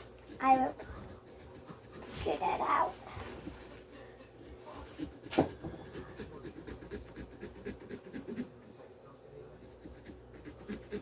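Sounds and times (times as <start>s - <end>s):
carving tool scratching pumpkin: 0.0s - 8.7s, 9.5s - 11.0s.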